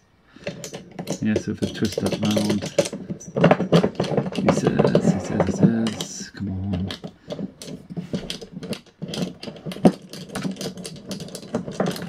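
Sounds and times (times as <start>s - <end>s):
knob ratcheting clicks and scrapes: 0.4s - 12.0s.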